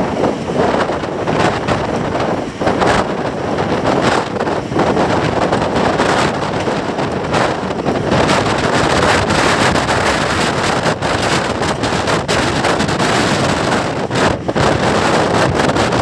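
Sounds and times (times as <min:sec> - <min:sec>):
train running on track: 0:00.0 - 0:16.0
wind buffeting microphone: 0:00.0 - 0:16.0.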